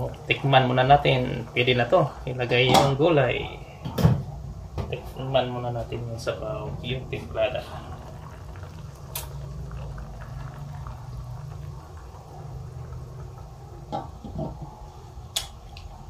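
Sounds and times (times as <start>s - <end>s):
broth bubbling in a wok: 0.0s - 5.6s, 6.3s - 16.0s.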